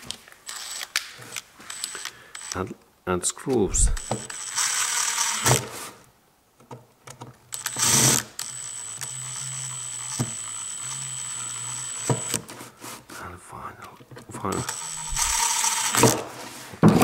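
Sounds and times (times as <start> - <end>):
mechanical hum: 0.0 - 13.4, 14.0 - 17.0.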